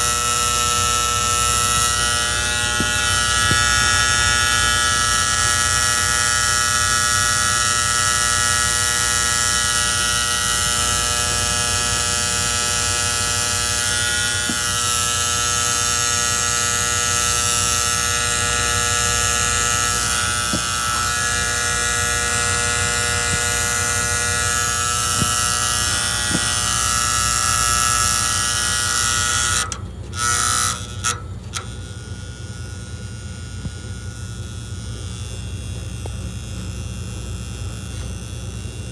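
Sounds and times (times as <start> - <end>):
gas valve buzzing loudly: 0.0 - 38.9
low hum: 0.0 - 38.9.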